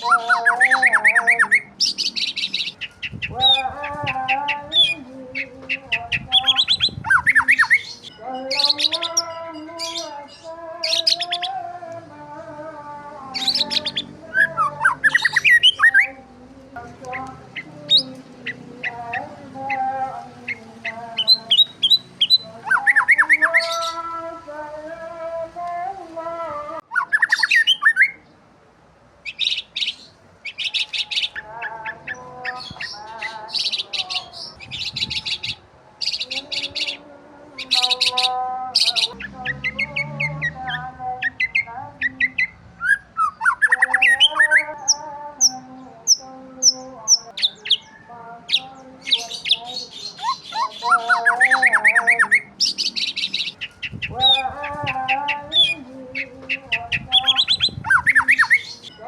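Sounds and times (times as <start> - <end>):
small birds chirping: 0.0 - 11.6, 12.8 - 24.8, 26.9 - 28.4, 29.2 - 59.0.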